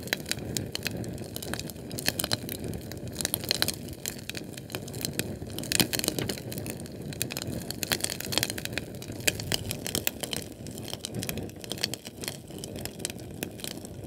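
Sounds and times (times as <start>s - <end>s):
fire crackling and popping: 0.0s - 14.0s
low rumble of burning: 0.0s - 14.0s.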